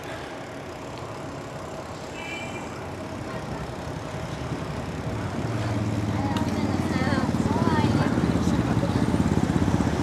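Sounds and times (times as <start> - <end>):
vehicle engine and tyre noise: 0.0 - 10.0.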